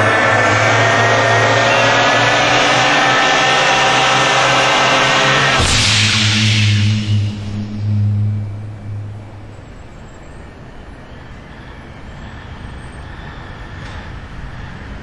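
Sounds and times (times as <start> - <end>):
choir humming engine note: 0.0 - 12.4.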